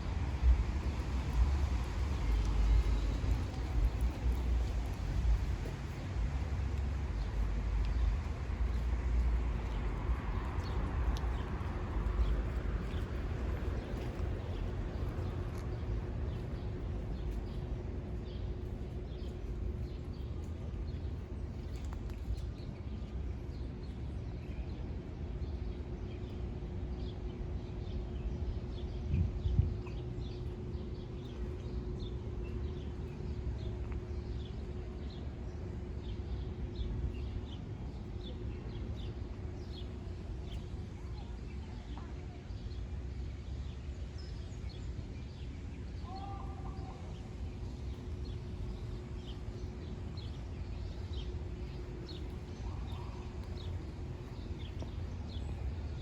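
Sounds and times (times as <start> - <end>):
faint steady hum: 0.0 - 56.0
low steady rumble: 0.0 - 56.0
small birds chirping: 0.4 - 56.0.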